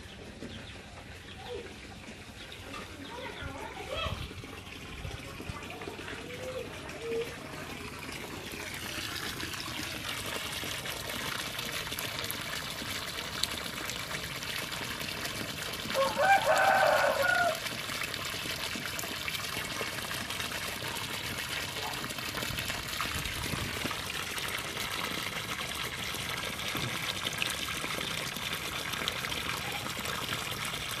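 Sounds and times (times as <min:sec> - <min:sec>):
water gushing from pipe: 0:00.0 - 0:31.0.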